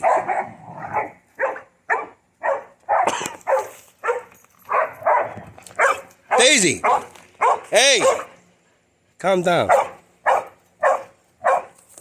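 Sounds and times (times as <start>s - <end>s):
dog barking: 0.0s - 8.4s, 9.6s - 11.8s.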